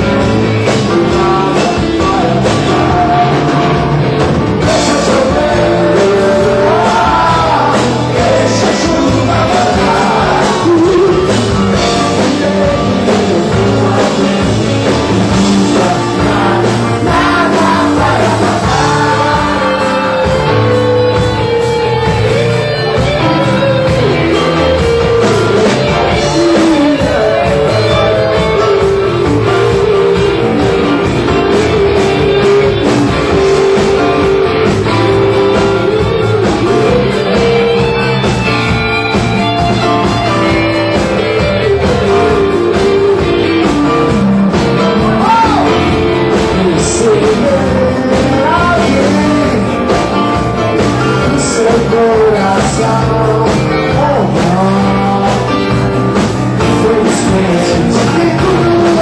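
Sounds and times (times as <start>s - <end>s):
live pop-rock band playing: 0.0s - 59.0s.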